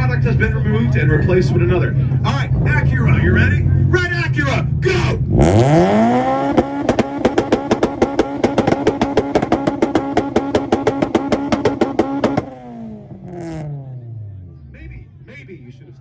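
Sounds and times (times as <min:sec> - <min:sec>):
rev limiter popping and cracking: 0:00.0 - 0:14.1
car engine revving: 0:00.0 - 0:15.2.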